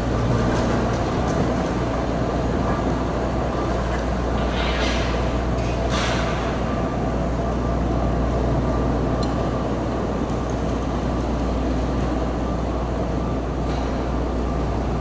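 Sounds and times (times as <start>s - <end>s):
diesel engine drone: 0.0s - 15.0s
thin steady whine: 0.0s - 15.0s.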